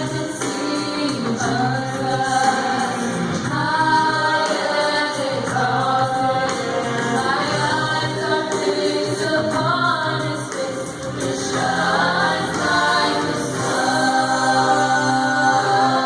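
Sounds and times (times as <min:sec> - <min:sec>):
choir singing sustained notes: 0:00.0 - 0:16.0.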